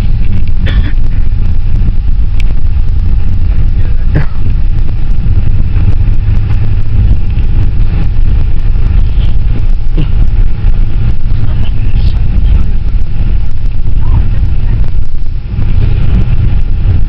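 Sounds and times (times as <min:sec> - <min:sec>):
van engine and road rumble: 0:00.0 - 0:17.0.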